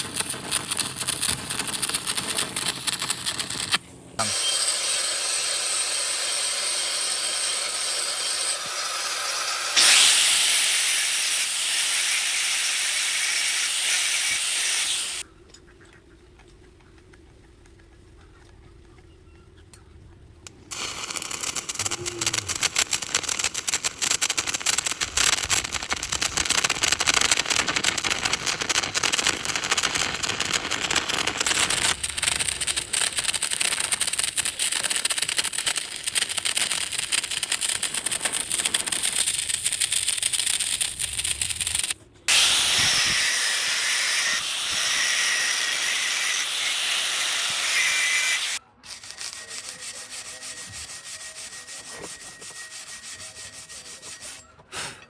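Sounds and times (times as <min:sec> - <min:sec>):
harsh hiss and crackle: 0:00.0 - 0:15.2, 0:20.7 - 0:50.4.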